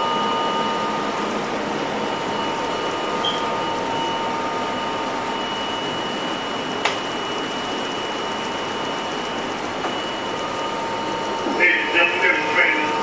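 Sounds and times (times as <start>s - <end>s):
train motor whine: 0.0s - 13.0s.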